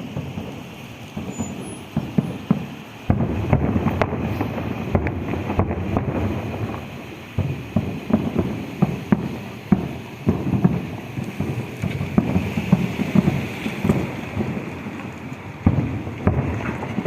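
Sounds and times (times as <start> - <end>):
continuous rumble: 0.0 - 17.0
fireworks bangs: 0.0 - 17.0.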